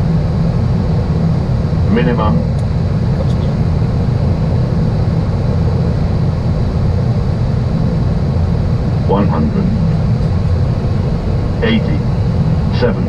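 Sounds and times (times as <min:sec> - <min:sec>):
aircraft engine noise: 0:00.0 - 0:13.0
airflow rumble: 0:00.0 - 0:13.0.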